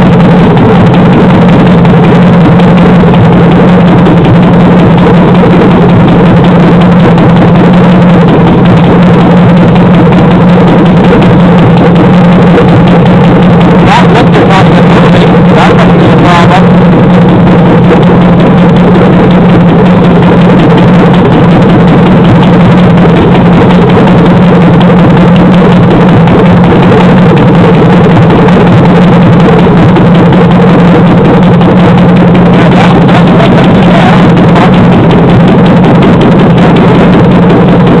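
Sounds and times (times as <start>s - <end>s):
engine valvetrain clatter: 0.0s - 38.0s.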